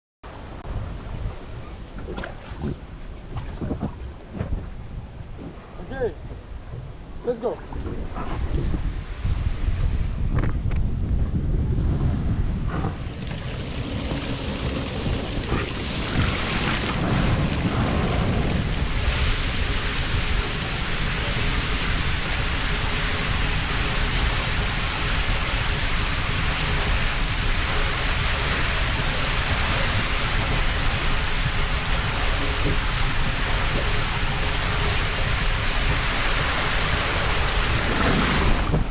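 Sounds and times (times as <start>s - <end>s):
water and air rushing on waterslide: 0.2s - 38.9s.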